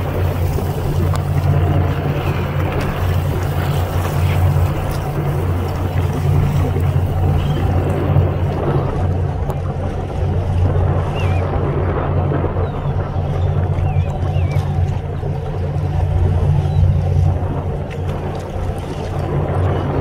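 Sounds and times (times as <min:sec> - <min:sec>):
boat engine humming: 0:00.0 - 0:20.0
water washing: 0:00.0 - 0:20.0
wind: 0:00.0 - 0:20.0.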